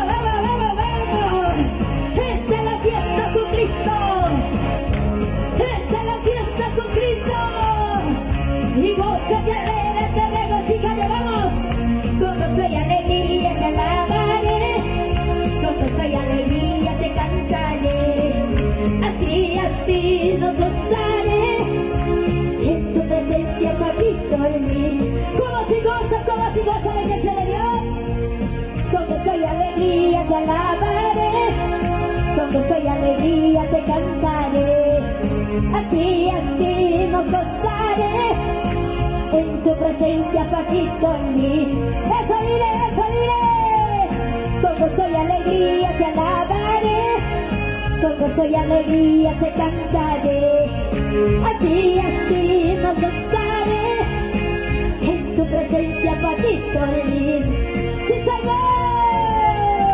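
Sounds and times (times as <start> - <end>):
live band playing praise music: 0.0 - 59.9.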